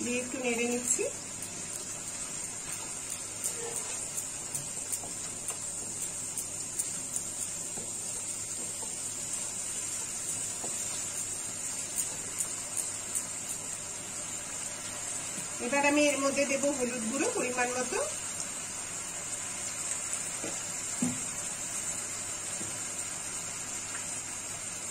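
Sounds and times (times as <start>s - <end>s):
paste sizzling in hot oil: 0.0s - 24.9s.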